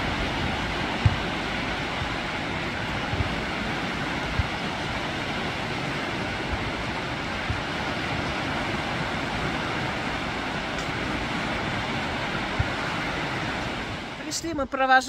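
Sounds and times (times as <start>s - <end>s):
waves washing onto sandy beach: 0.0s - 14.6s
wind buffeting microphone: 0.0s - 15.0s.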